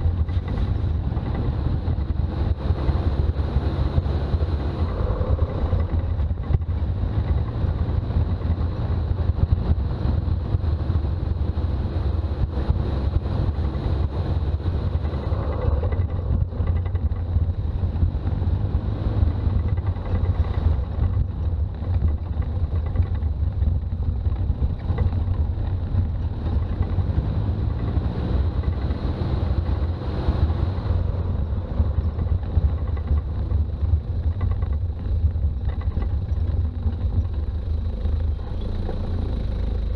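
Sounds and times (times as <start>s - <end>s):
diesel engine and road rumble: 0.0s - 39.9s.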